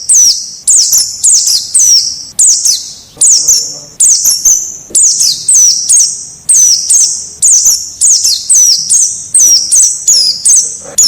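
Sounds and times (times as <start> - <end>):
bird chirps sweeping downward: 0.0 - 11.0.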